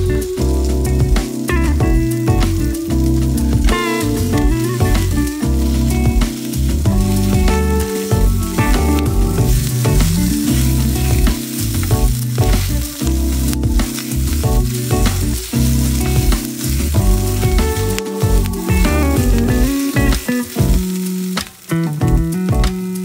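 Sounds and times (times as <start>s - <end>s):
background music with bass: 0.0s - 23.0s
food sizzling in frying pan: 0.0s - 23.0s.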